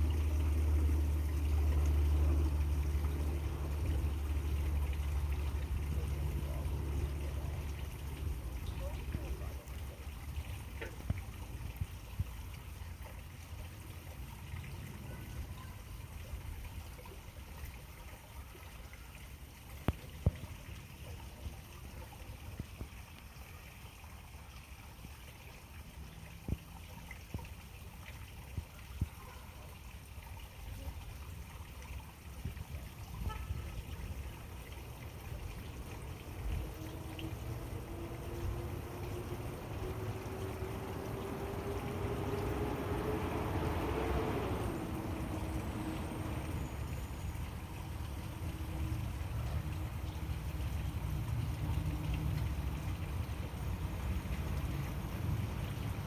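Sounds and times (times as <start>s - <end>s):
faint trickling water: 0.0s - 56.0s.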